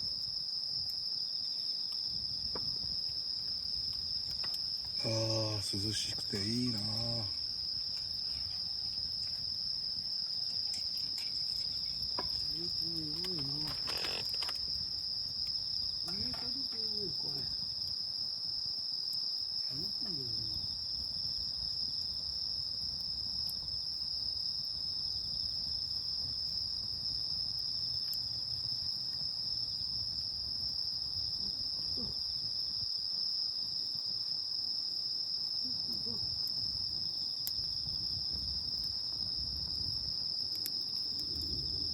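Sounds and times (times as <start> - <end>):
night insects trilling: 0.0 - 41.9.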